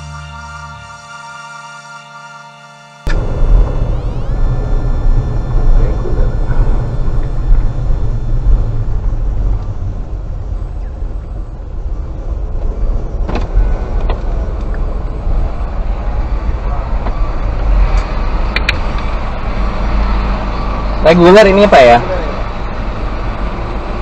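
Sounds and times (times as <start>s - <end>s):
car engine and road noise: 2.9s - 24.0s.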